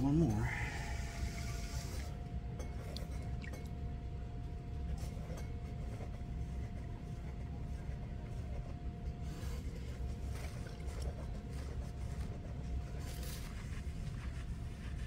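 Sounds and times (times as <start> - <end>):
pottery wheel hum and whine: 0.0 - 15.0.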